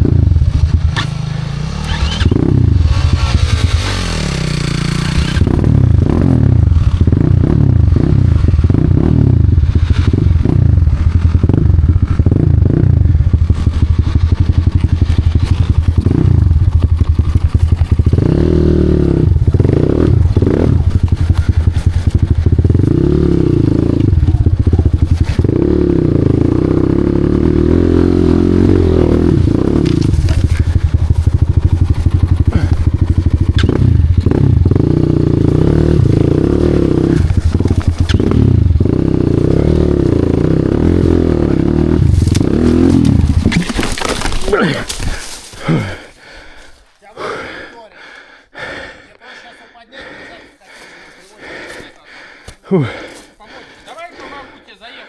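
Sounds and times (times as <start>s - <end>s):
motorcycle engine revving: 0.0s - 46.6s, 50.9s - 53.3s.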